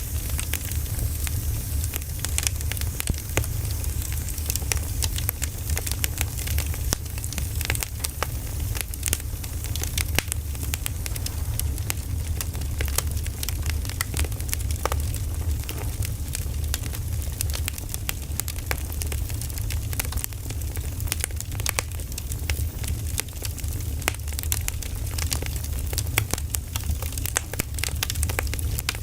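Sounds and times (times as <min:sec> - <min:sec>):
fire low rumble: 0:00.0 - 0:29.0
firewood crackling and popping: 0:00.0 - 0:29.0.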